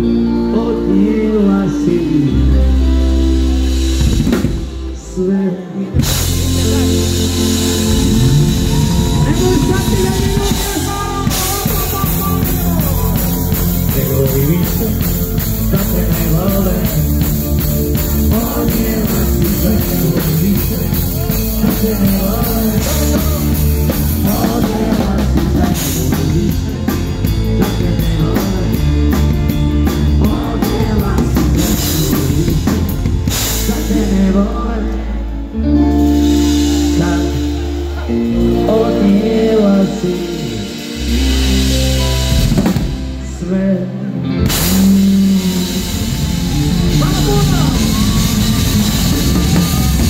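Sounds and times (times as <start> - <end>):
person singing: 0.0 - 50.0
rock band playing: 0.0 - 50.0
drum kit: 3.2 - 5.0, 5.9 - 34.6, 35.8 - 43.4, 44.3 - 50.0.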